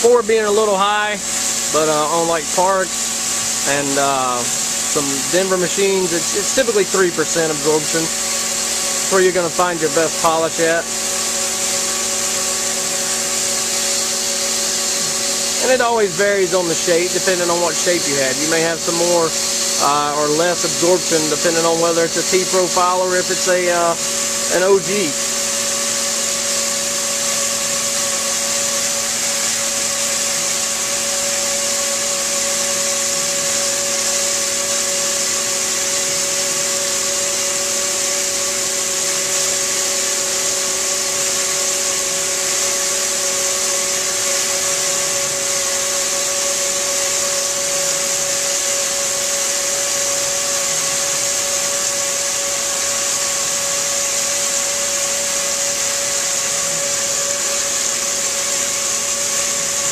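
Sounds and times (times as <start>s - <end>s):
stone router machine whine: 0.0s - 59.9s.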